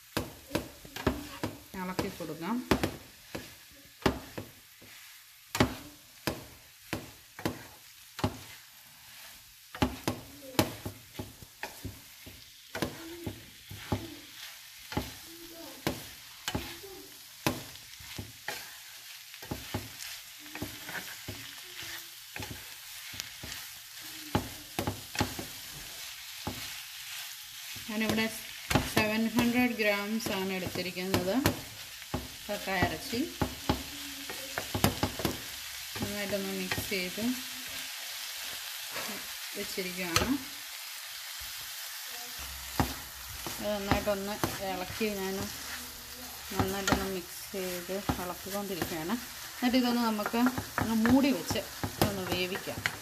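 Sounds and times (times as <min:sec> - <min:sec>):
clams sizzling: 0:00.0 - 0:53.0
spatula scraping frying pan: 0:00.1 - 0:40.6, 0:41.4 - 0:53.0.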